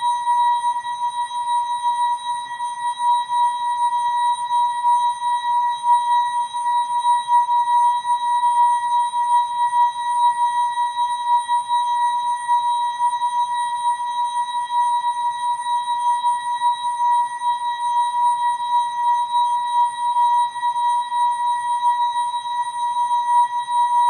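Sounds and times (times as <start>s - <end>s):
long steady ringing tone: 0.0s - 24.0s.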